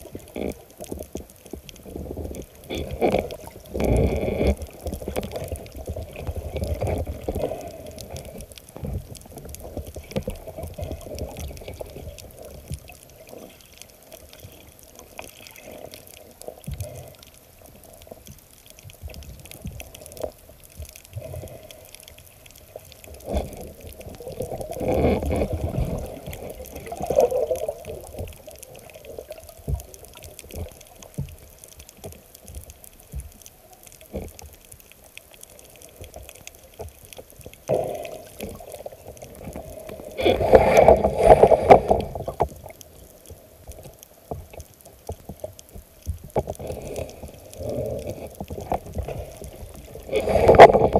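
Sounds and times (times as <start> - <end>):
muffled underwater sloshing: 0.0 - 50.9.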